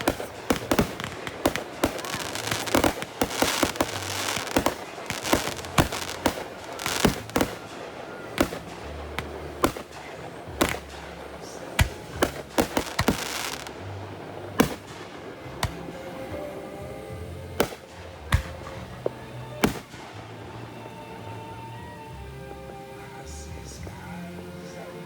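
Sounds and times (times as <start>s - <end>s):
fireworks bangs: 0.0s - 24.9s
fireworks crackle: 0.0s - 25.0s.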